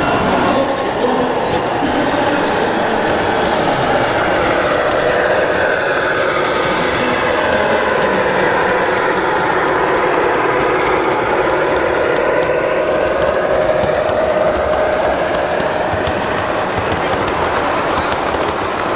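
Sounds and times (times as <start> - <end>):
electric motors whining: 0.0 - 18.9.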